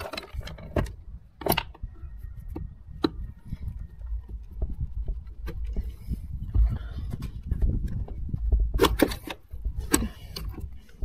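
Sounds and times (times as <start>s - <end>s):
low rumble: 0.3s - 11.0s.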